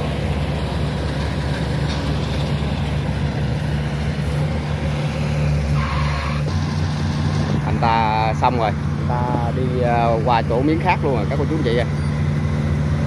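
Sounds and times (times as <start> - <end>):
cart engine humming: 0.0 - 13.0.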